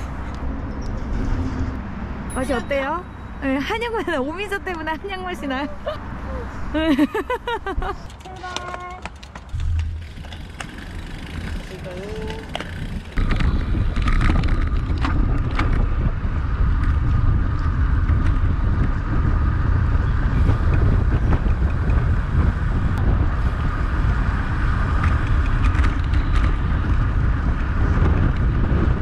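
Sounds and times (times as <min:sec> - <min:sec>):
tyre and road noise: 0:00.0 - 0:29.0
wind buffeting microphone: 0:00.0 - 0:29.0.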